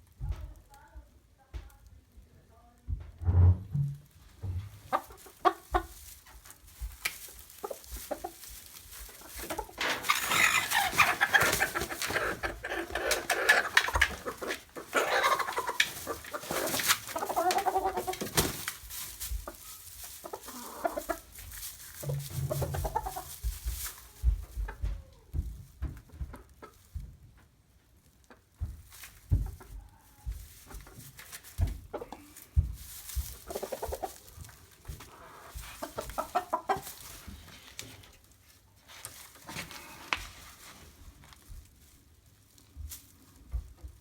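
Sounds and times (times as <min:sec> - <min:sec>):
chickens clucking: 0:04.4 - 0:27.1, 0:28.1 - 0:40.8.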